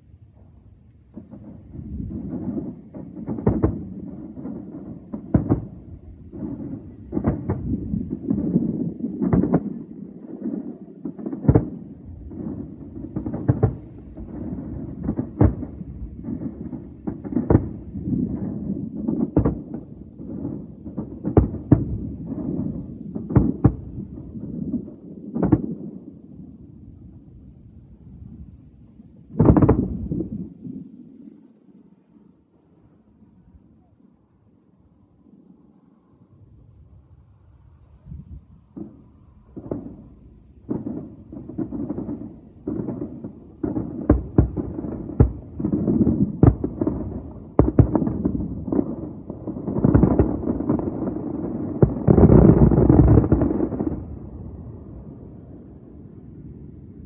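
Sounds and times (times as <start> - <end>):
fireworks bangs: 0.3 - 26.6, 29.2 - 30.9, 38.1 - 57.0.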